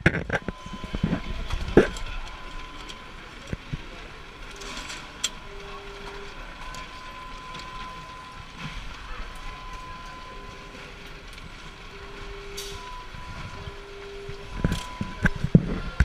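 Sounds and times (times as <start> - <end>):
steady machine hum: 0.0 - 16.0
voices: 0.3 - 16.0
faint steady tone: 0.4 - 16.0.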